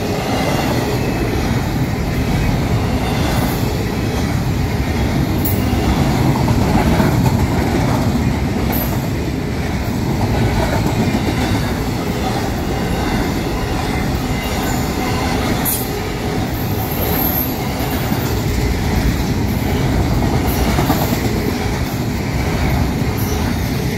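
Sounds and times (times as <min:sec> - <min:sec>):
freight train wheels clattering: 0:00.0 - 0:23.9.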